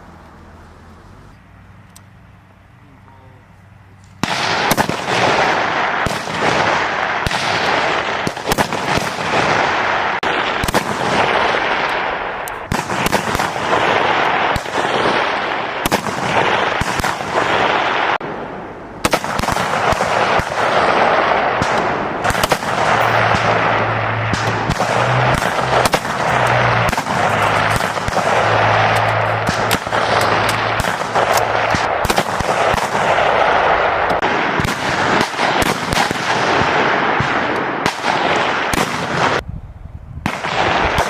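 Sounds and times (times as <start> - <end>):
rapid rifle fire: 4.2 - 18.4, 19.0 - 39.4, 40.3 - 41.0.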